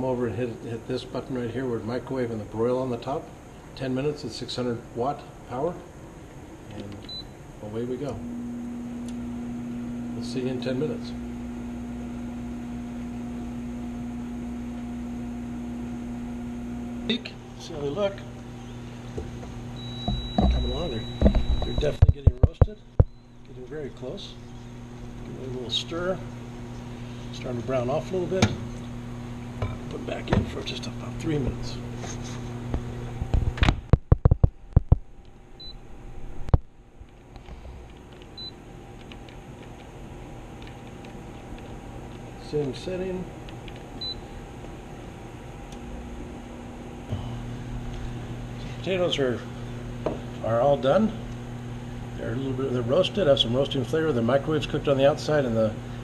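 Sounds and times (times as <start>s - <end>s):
oven humming: 4.5s - 56.0s.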